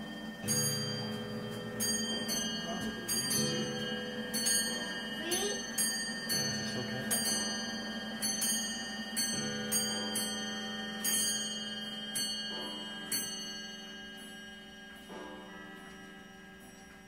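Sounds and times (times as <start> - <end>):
mechanical clocks chiming: 0.0 - 17.0.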